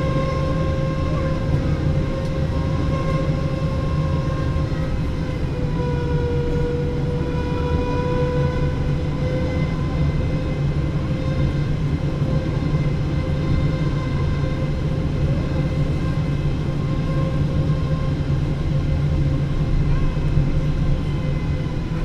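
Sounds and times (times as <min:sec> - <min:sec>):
airliner cabin low rumble: 0:00.0 - 0:22.0
jet engine whine: 0:00.0 - 0:22.0.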